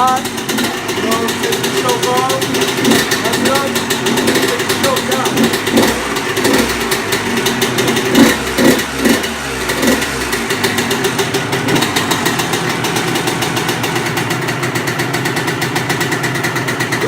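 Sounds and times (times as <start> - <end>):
two-stroke engine revving and idling: 0.0 - 17.0.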